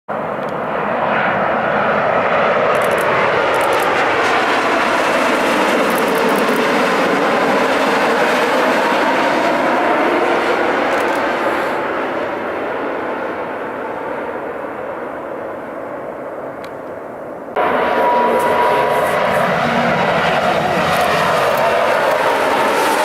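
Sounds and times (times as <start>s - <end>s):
jet engines roaring: 0.1s - 23.0s.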